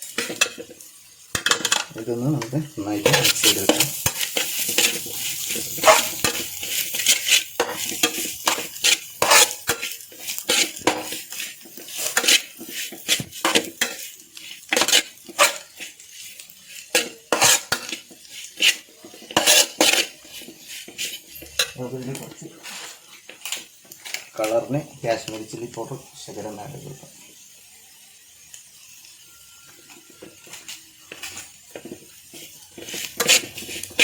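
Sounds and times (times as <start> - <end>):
utensil scraping a pan: 0.0 - 27.1, 29.8 - 34.0
light sizzle: 0.0 - 34.0.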